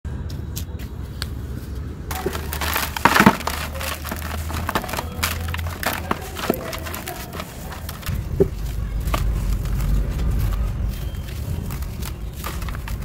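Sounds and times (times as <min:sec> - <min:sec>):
sand-cement lumps crumbling: 0:02.1 - 0:13.0.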